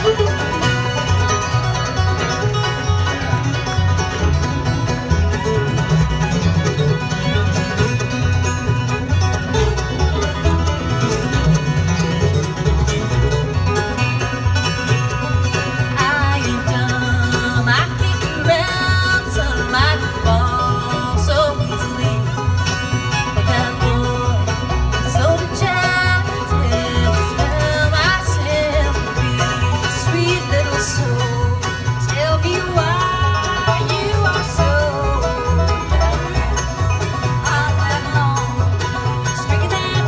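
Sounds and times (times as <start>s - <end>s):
bluegrass band playing: 0.0s - 40.0s.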